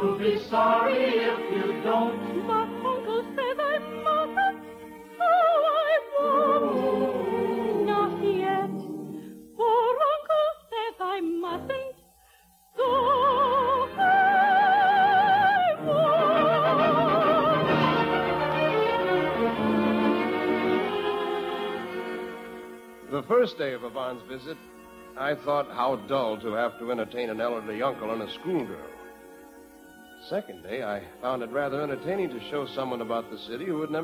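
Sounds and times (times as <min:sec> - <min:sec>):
orchestra playing: 0:00.0 - 0:05.2, 0:06.1 - 0:09.5, 0:13.8 - 0:34.0
operatic singing with vibrato: 0:00.0 - 0:12.0, 0:12.7 - 0:34.0.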